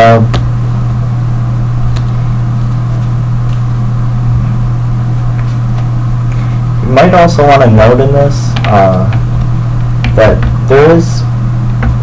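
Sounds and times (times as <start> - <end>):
loud low hum: 0.0 - 12.0.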